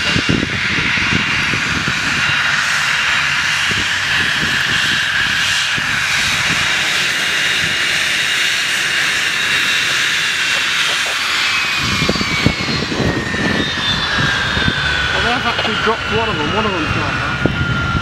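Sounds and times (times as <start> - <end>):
jet engines whining at taxi: 0.0 - 18.0.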